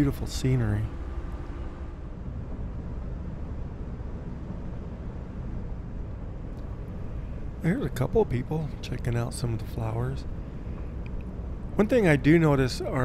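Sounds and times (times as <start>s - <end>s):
vehicle driving rumble: 0.0s - 13.0s.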